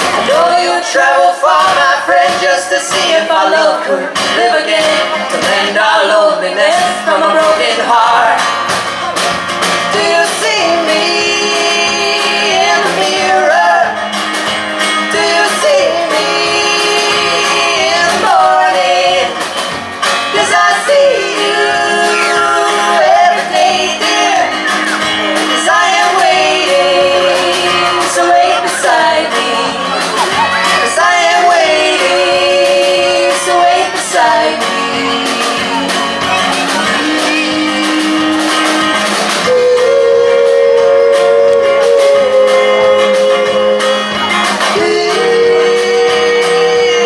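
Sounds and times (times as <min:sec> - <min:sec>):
man singing: 0:00.0 - 0:08.6, 0:09.8 - 0:14.2, 0:14.8 - 0:19.5, 0:20.2 - 0:47.0
drum kit: 0:00.0 - 0:47.0
strummed acoustic guitars: 0:00.0 - 0:47.0
woman singing lead: 0:00.0 - 0:47.0.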